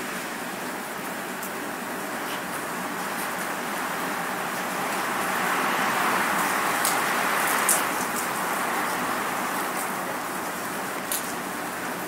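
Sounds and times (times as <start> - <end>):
rain hiss: 0.0 - 12.0
wind: 0.0 - 12.0.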